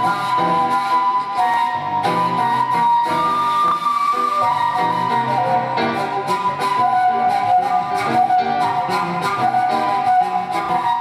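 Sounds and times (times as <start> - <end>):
flute playing held notes: 0.0 - 11.0.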